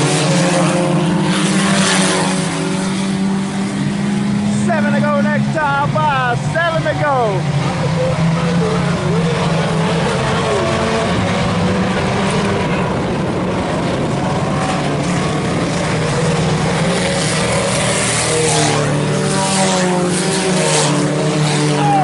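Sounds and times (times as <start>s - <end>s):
cars passing: 0.0s - 22.0s
race car engines droning: 0.0s - 22.0s.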